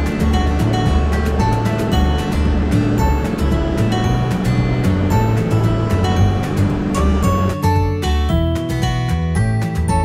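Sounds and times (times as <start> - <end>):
plucked string instrument music: 0.0 - 10.0
steady bass line: 0.0 - 10.0.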